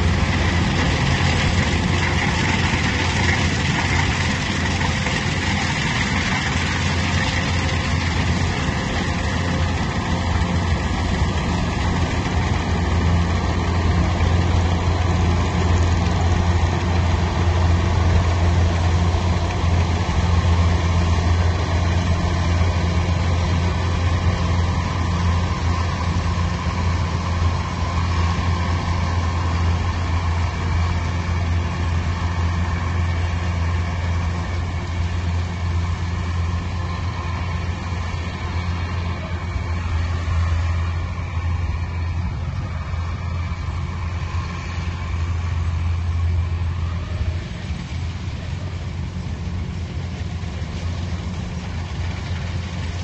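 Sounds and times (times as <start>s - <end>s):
machine engine humming: 0.0s - 53.0s.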